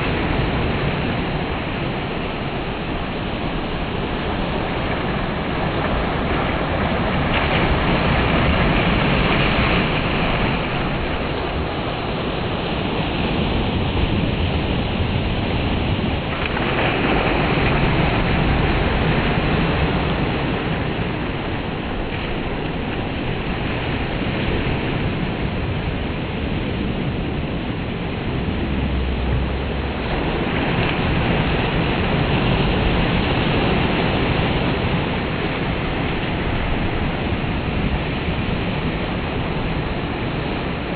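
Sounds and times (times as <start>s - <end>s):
surf washing onto beach: 0.0s - 40.9s.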